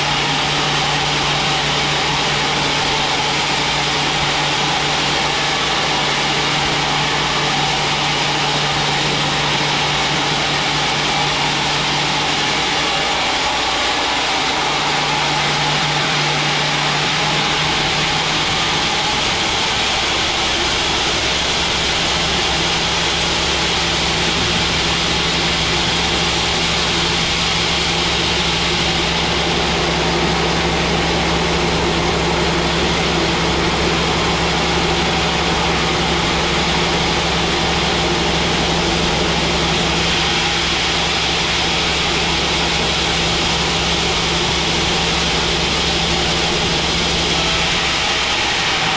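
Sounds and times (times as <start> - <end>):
sawmill drive hum: 0.0 - 48.9.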